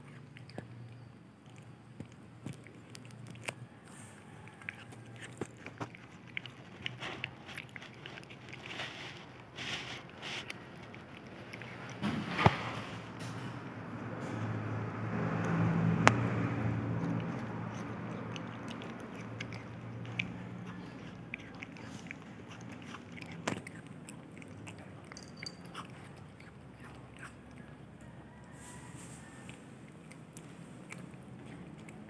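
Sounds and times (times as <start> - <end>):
cat chewing coconut: 0.0 - 32.0.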